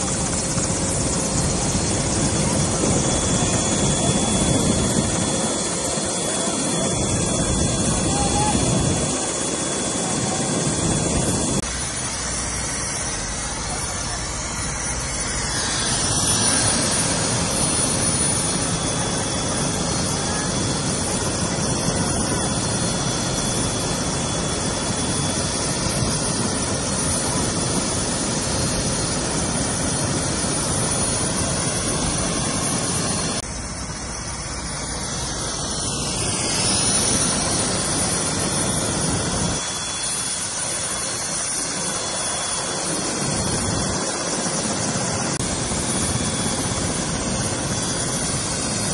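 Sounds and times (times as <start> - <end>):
helicopter turbine whine: 0.0 - 48.9.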